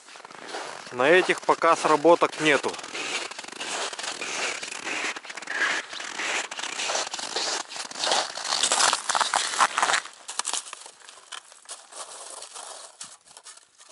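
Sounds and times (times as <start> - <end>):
footsteps crunching in snow: 0.0 - 13.9.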